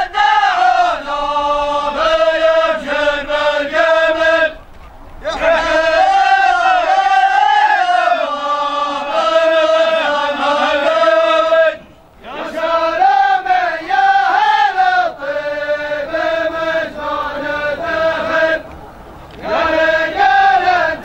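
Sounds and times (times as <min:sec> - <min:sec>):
men chanting in unison: 0:00.0 - 0:04.6, 0:05.2 - 0:18.7, 0:19.4 - 0:21.0.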